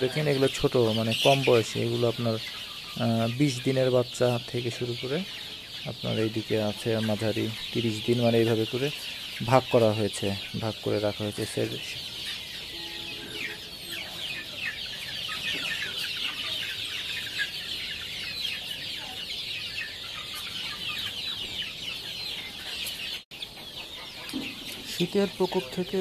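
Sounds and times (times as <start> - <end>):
chicken clucking: 0.0 - 26.0
chicks peeping: 0.0 - 26.0.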